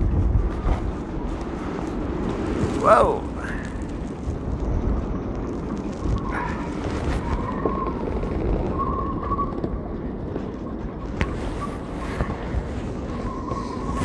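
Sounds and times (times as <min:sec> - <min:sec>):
wind gusting across microphone: 0:00.0 - 0:14.0.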